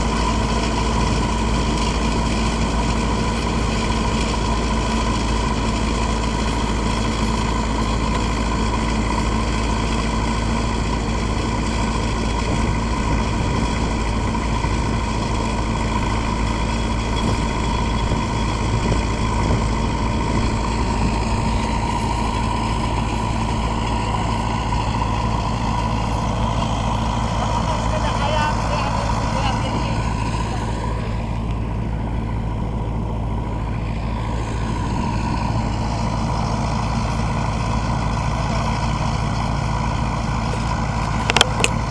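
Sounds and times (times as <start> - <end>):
trencher machine engine running: 0.0 - 41.9.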